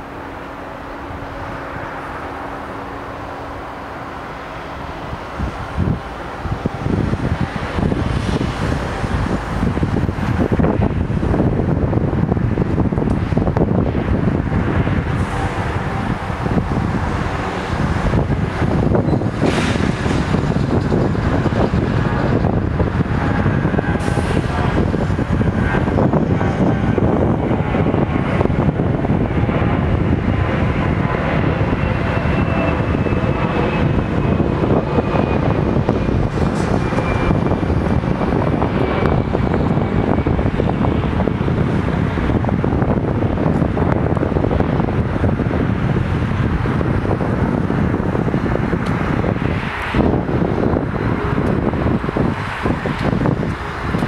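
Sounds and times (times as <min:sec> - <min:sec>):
diesel train approaching: 0:00.0 - 0:54.0
traffic rumble: 0:00.0 - 0:54.0
wind buffeting microphone: 0:00.0 - 0:54.0.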